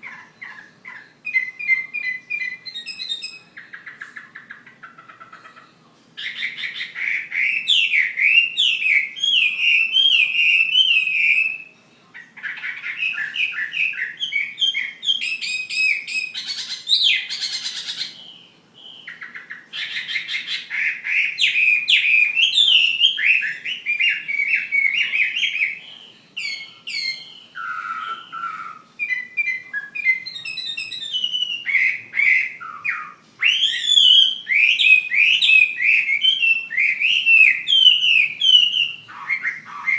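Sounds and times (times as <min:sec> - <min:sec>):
bird singing whistled phrases: 0:00.0 - 0:04.5, 0:06.2 - 0:39.9.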